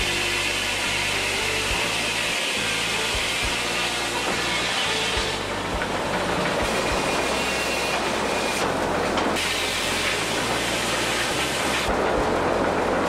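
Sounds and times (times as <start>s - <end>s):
circular saw cutting log: 0.0s - 13.0s.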